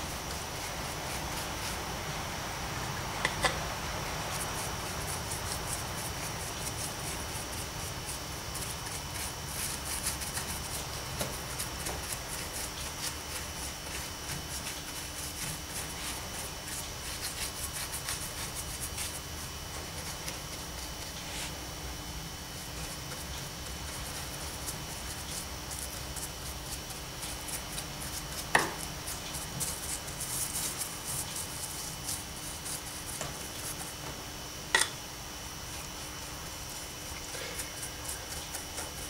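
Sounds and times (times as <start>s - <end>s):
paintbrush scratchy strokes: 0.0s - 21.6s, 22.5s - 34.0s, 35.6s - 39.0s.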